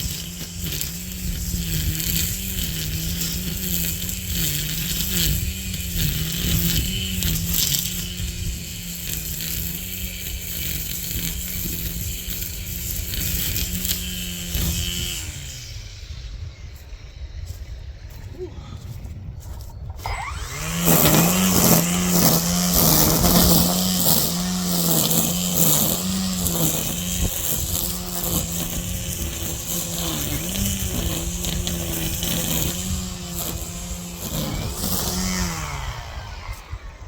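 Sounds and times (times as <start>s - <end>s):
string trimmer running: 0.0s - 19.0s, 19.9s - 37.0s.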